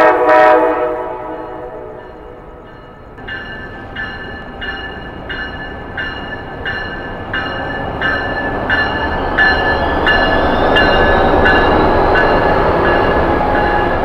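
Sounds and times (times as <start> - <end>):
train wheels rumbling on rail: 0.0 - 14.0
bell ringing: 2.0 - 14.0.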